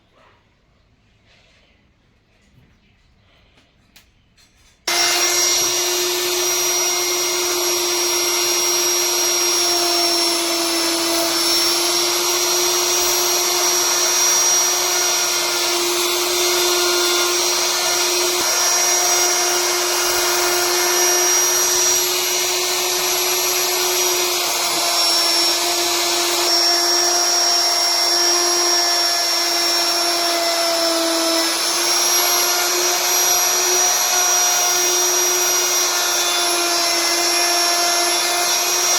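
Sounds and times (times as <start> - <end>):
power tool motor whine: 4.9 - 38.9.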